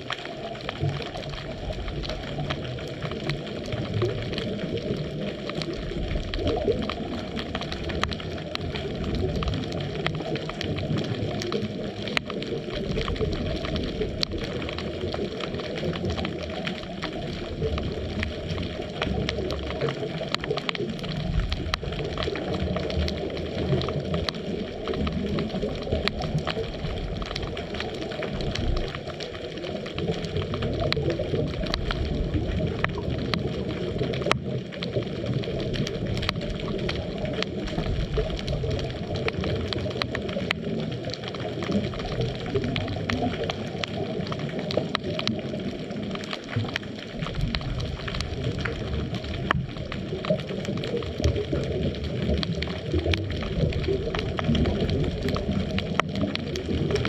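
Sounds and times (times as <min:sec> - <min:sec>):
faint clicks and crackles: 0:00.0 - 0:57.0
muffled underwater rushing: 0:00.0 - 0:57.0.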